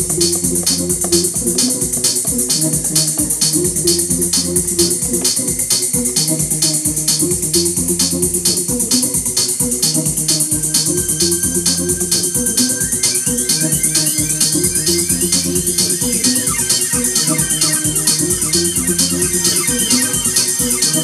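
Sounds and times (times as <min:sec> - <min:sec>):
fast hi-hats: 0:00.0 - 0:21.0
kick drum: 0:00.0 - 0:21.0
repeating bass line: 0:00.0 - 0:21.0.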